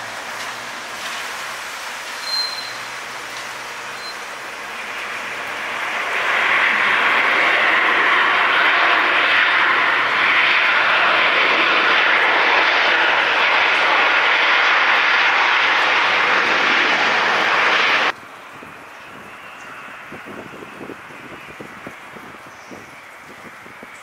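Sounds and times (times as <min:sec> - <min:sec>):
jet engines in reverse thrust: 0:00.0 - 0:24.0.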